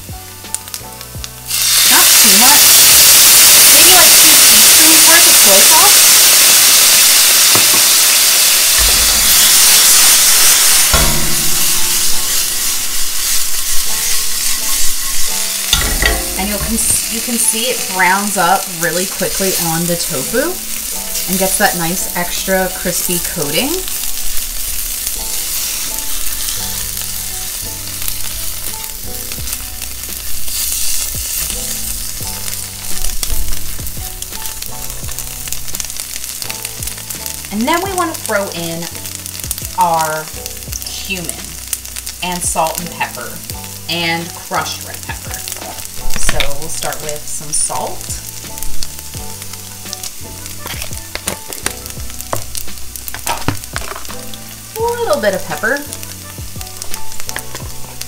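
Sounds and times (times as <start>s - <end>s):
tofu sizzling in hot oil: 0.0s - 58.0s.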